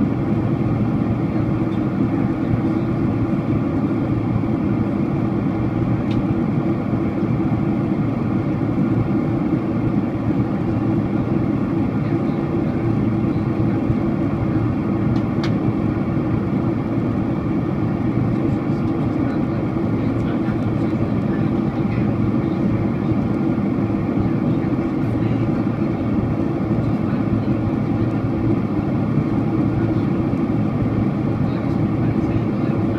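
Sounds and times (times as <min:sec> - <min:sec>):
airliner engine drone in cabin: 0:00.0 - 0:32.9.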